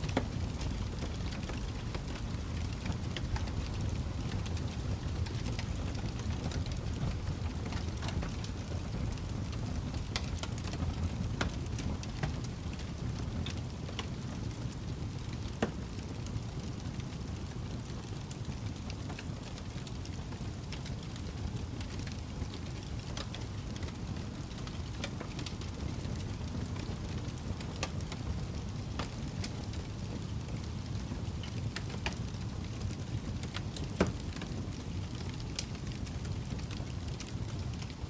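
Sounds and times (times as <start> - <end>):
wood fire crackling: 0.0 - 38.0
fire popping: 0.1 - 38.0.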